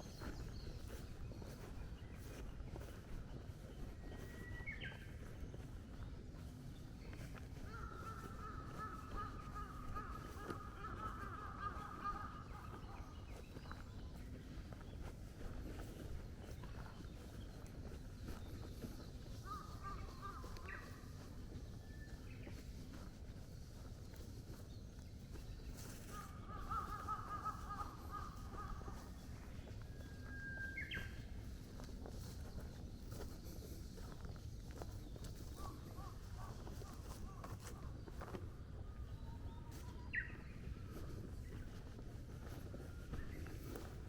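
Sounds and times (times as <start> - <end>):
chorus of animal calls: 7.1 - 24.7, 25.3 - 44.0.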